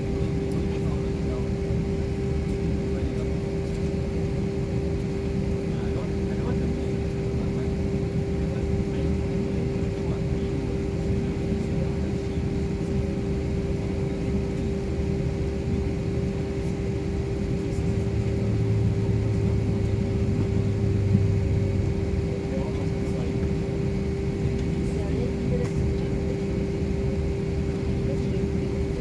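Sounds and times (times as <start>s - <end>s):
airliner cabin drone: 0.0s - 29.0s
constant hum tone: 0.0s - 29.0s.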